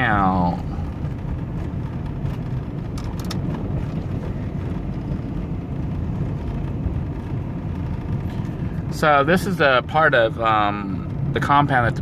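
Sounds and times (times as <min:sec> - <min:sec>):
van engine and tyre rumble: 0:00.0 - 0:12.0.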